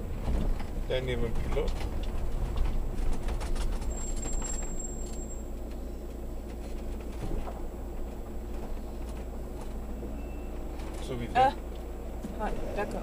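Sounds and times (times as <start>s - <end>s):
motorhome engine rumbling: 0.0s - 13.0s.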